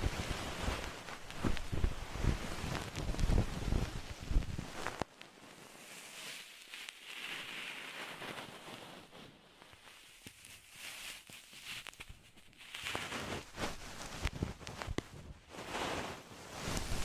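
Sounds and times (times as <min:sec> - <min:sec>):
scratchy rustling close to microphone: 0:00.0 - 0:17.0.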